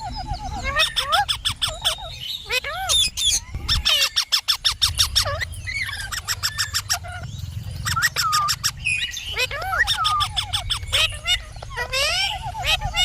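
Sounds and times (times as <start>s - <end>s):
parrot chirping: 0.0s - 13.0s.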